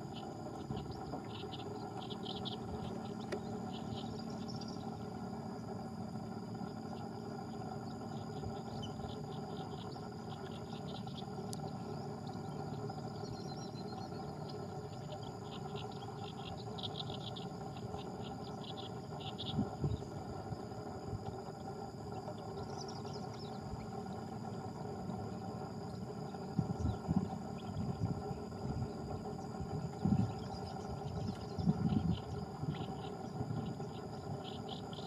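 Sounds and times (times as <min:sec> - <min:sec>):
insect chirping in rapid pulses: 0:00.0 - 0:35.0.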